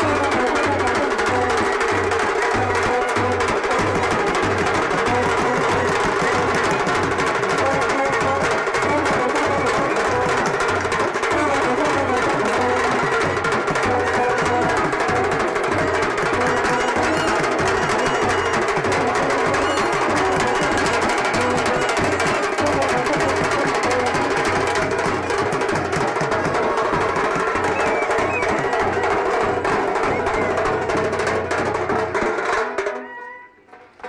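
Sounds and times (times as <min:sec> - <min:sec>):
procession music with drumming: 0:00.0 - 0:34.0.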